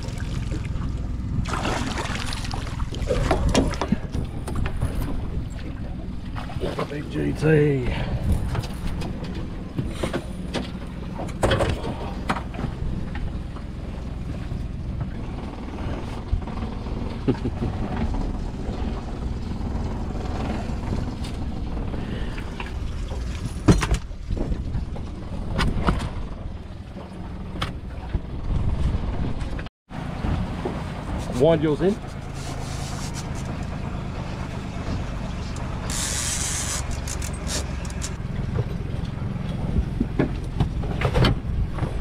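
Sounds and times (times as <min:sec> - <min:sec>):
outboard motor running: 0:00.0 - 0:42.0
knocks and clunks on hull: 0:01.4 - 0:07.1, 0:08.0 - 0:31.2, 0:36.9 - 0:42.0.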